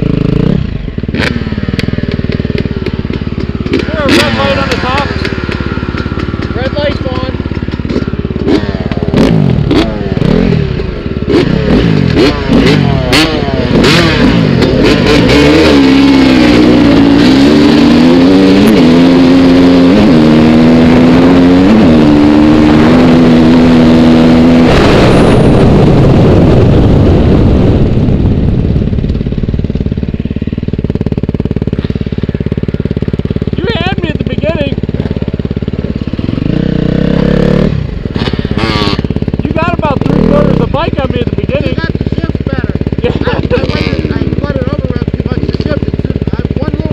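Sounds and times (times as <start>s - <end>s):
motorcycle engine revving and accelerating: 0.0s - 46.9s.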